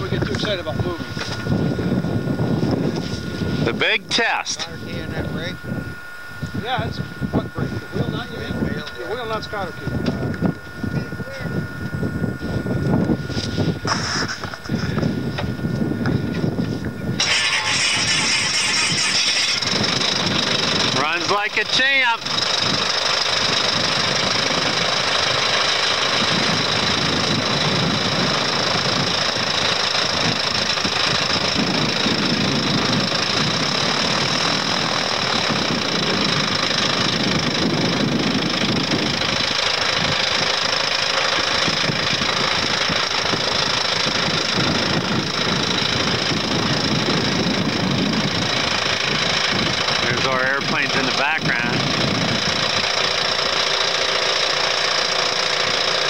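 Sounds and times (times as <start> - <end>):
propeller plane engine running: 0.0 - 56.0.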